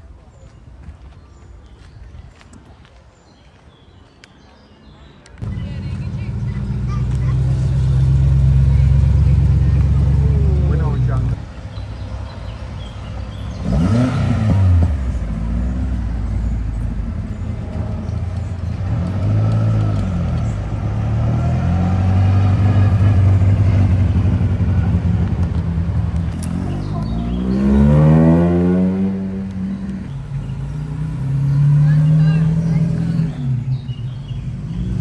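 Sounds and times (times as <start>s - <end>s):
cars driving past: 5.4s - 35.0s
engines revving: 5.4s - 35.0s.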